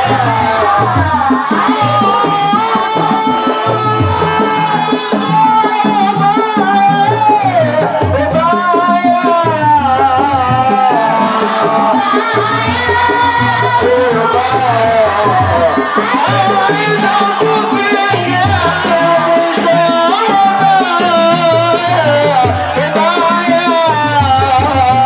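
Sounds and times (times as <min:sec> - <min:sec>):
group singing: 0:00.0 - 0:25.0
steady drum beat: 0:00.0 - 0:25.0.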